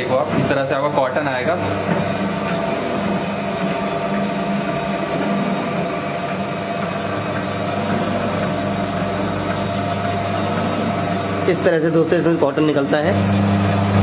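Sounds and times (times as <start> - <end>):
machine mechanical drone: 0.0 - 14.0.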